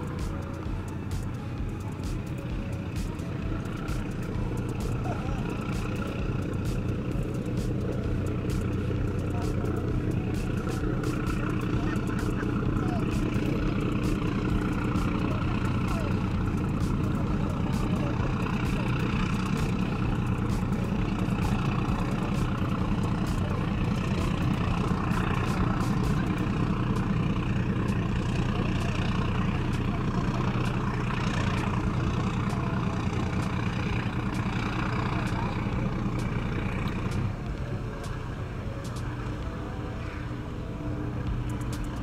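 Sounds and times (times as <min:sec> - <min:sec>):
ferry engines droning: 0:00.0 - 0:42.0
indistinct voices: 0:00.0 - 0:42.0.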